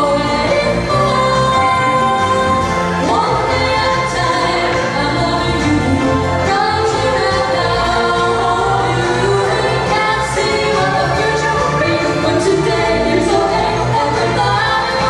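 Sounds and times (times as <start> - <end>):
electric bass: 0.0 - 15.0
keyboards: 0.0 - 15.0
woman singing: 0.0 - 15.0.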